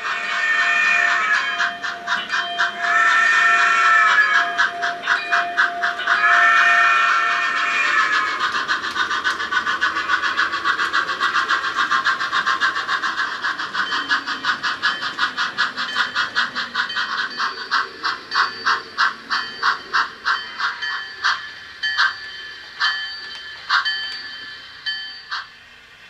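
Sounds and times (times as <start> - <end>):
model steam locomotive chuffs: 0.0 - 26.0.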